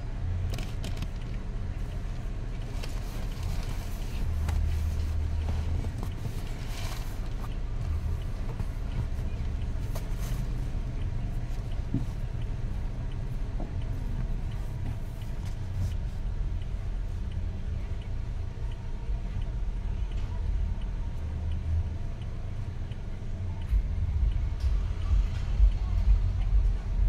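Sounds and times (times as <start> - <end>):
car cabin low rumble: 0.0 - 27.0.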